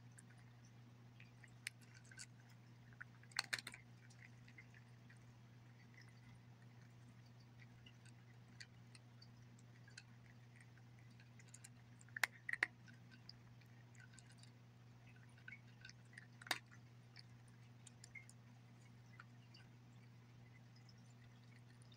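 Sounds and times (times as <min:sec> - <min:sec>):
cat crunching dry kibble: 0:00.0 - 0:21.9
steady low hum: 0:00.0 - 0:21.9.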